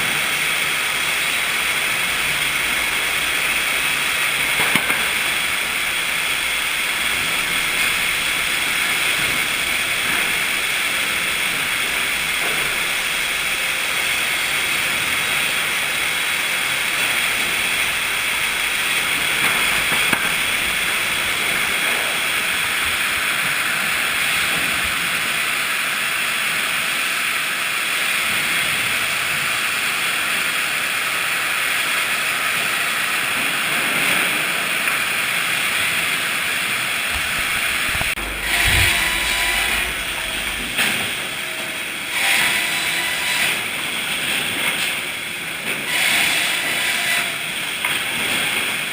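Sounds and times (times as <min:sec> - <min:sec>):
sawmill machinery hissing: 0:00.0 - 0:48.9.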